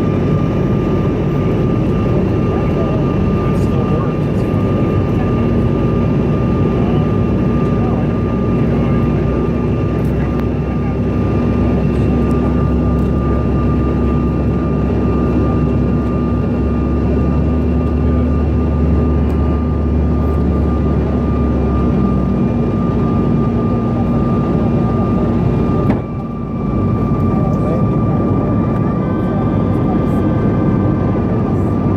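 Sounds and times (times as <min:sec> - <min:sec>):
jet cabin rumble: 0:00.0 - 0:31.9.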